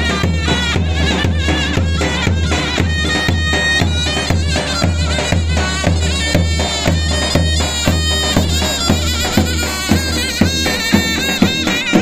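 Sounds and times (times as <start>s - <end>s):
shrill reedy wind melody: 0.0s - 12.0s
steady drum beat: 0.0s - 12.0s.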